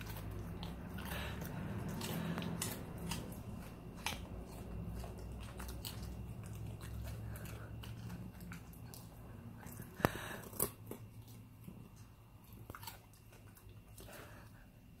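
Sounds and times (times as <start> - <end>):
dog crunching a carrot: 0.0 - 14.6.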